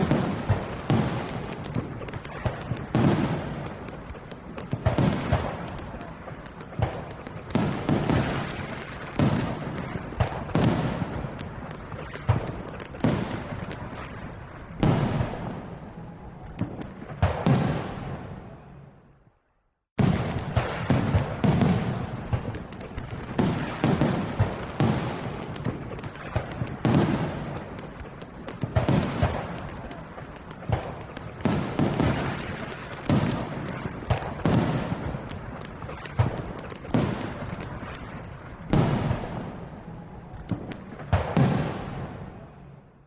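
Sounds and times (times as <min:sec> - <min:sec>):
fireworks crackling: 0:00.0 - 0:18.9, 0:19.9 - 0:43.0
fireworks booming: 0:00.0 - 0:19.1, 0:19.9 - 0:43.0.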